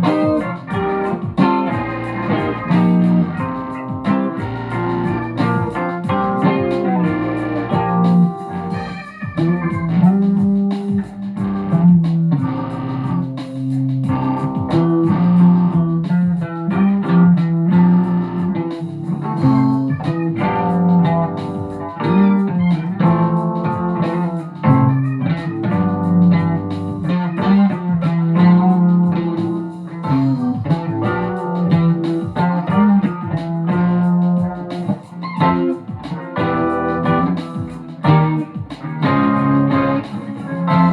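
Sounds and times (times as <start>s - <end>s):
low bass line: 0.0s - 10.6s, 11.3s - 40.9s
plucked guitar: 0.0s - 40.9s.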